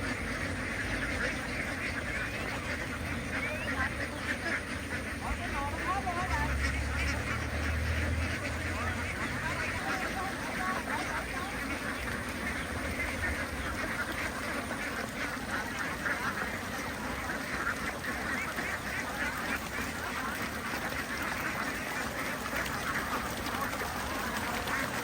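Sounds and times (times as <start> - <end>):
ducks quacking: 0.0 - 25.0.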